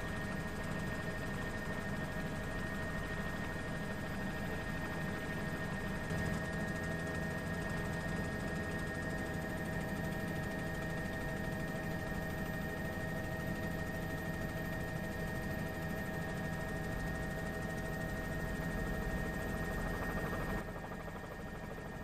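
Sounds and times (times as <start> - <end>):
helicopter engine drone: 0.0 - 22.0.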